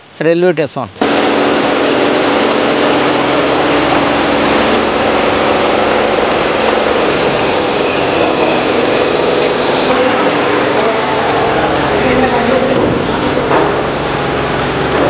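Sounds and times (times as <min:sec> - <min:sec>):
machine engine running: 0:01.0 - 0:15.0.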